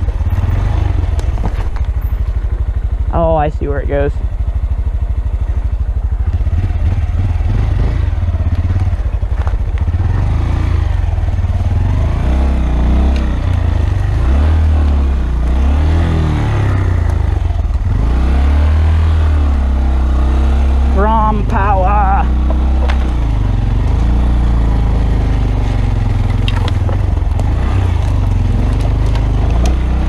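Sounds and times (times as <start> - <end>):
bike rattling over rough ground: 0.0 - 15.1, 21.0 - 30.0
motorcycle engine revving: 0.0 - 30.0.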